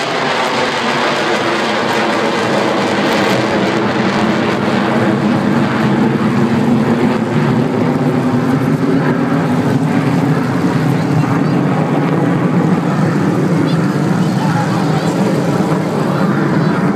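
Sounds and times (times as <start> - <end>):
jet airliner flying overhead: 0.0 - 16.9.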